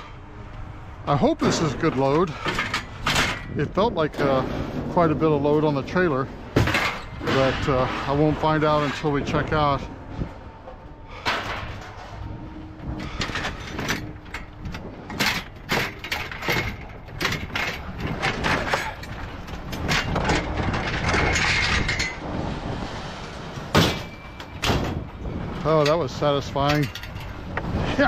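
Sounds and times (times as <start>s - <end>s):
scrap metal clanking and crashing: 1.1s - 28.0s.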